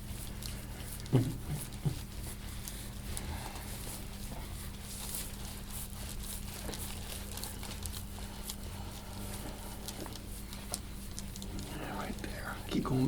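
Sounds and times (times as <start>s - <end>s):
hands rubbing on skin: 0.0s - 13.0s
steady low hum: 0.0s - 13.0s.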